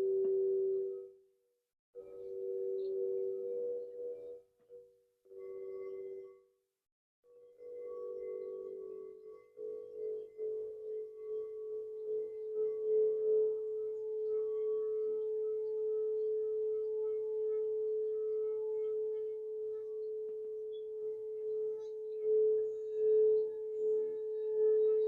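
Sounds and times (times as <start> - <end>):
singing bowl tone: 0.0 - 1.4, 2.0 - 6.6, 7.2 - 25.0.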